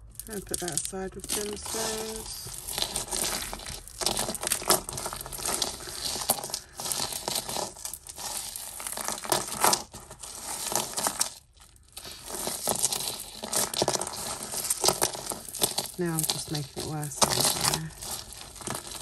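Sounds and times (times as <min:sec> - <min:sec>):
beads and chains clicking: 0:00.0 - 0:19.0
jewellery rustling and crinkling: 0:00.0 - 0:19.0.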